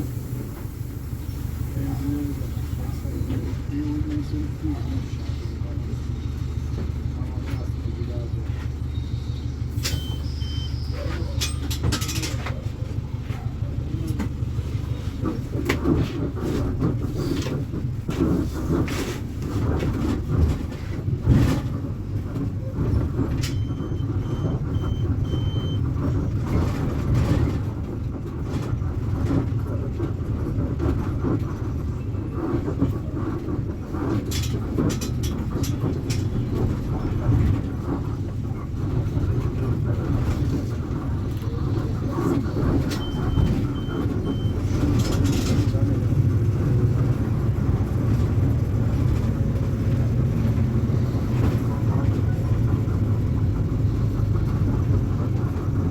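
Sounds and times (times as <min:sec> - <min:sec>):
bus diesel engine running: 0:00.0 - 0:55.9.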